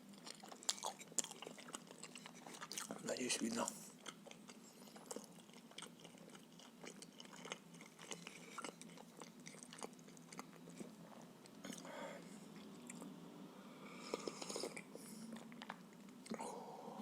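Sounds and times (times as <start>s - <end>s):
close chewing with wet mouth clicks: 0.1s - 3.0s, 3.9s - 11.9s, 12.5s - 13.2s, 14.0s - 16.4s.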